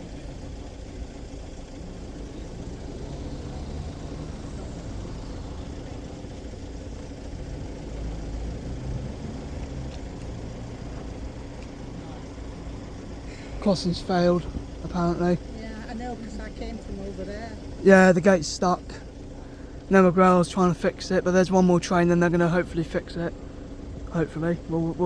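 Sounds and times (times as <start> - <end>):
car engines running: 0.0 - 25.0
vehicle passing: 1.7 - 25.0.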